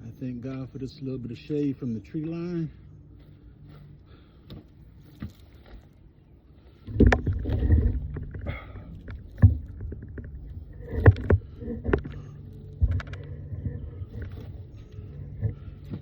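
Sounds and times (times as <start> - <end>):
low rumbling handling noise: 3.2 - 16.0.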